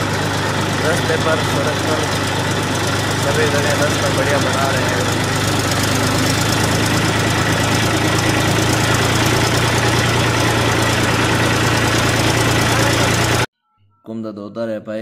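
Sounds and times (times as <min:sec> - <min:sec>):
tractor diesel engine running: 0:00.0 - 0:13.5.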